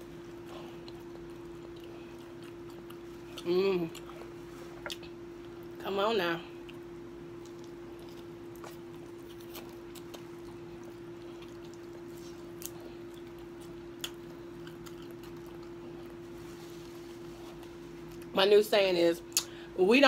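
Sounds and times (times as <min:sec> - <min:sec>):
quiet chewing: 0:00.0 - 0:05.8, 0:06.6 - 0:18.3
steady hum: 0:00.0 - 0:20.0.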